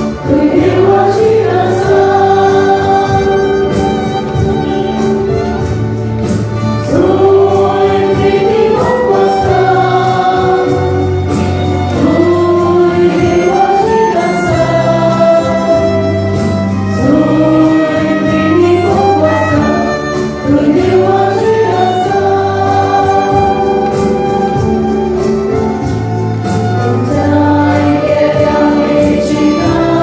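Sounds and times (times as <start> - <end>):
choir singing a hymn: 0.0 - 30.0
keyboard bass notes: 0.0 - 30.0
violin: 0.0 - 30.0.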